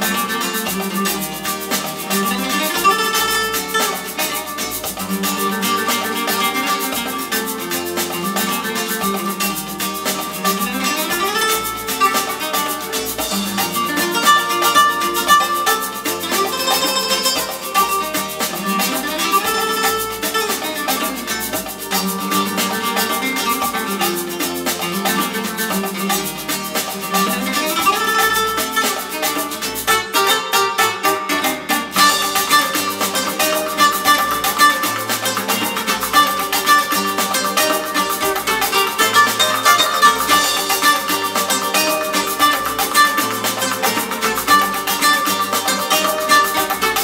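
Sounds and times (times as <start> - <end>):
music through loudspeakers: 0.0 - 47.0.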